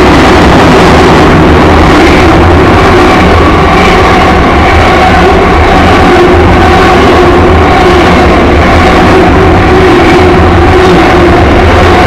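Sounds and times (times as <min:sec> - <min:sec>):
freight train rumbling in tunnel: 0:00.0 - 0:12.0.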